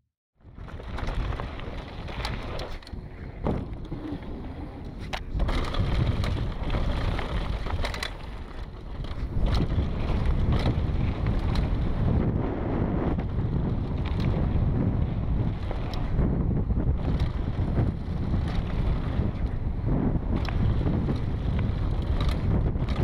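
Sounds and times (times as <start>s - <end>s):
bike knocking and rattling: 0.4s - 23.0s
bike tyres rumbling on gravel: 0.4s - 23.0s
wind on microphone: 0.4s - 23.0s.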